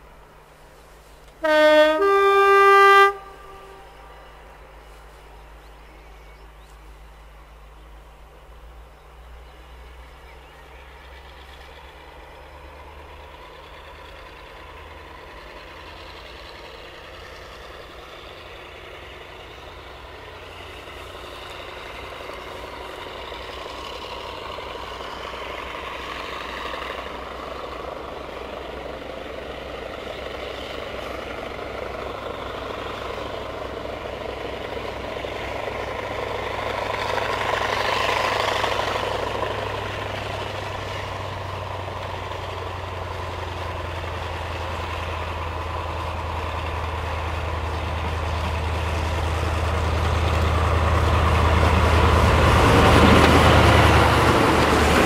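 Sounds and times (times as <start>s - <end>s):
locomotive engine working hard: 0.0s - 55.0s.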